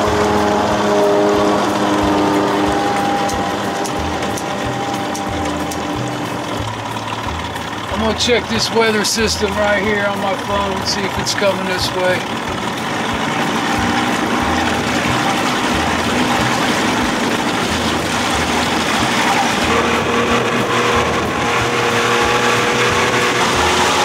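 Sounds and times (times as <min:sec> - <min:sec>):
high steady engine tone: 0:00.0 - 0:24.0
outboard motor running: 0:00.0 - 0:24.0
water rushing past hull: 0:00.0 - 0:24.0.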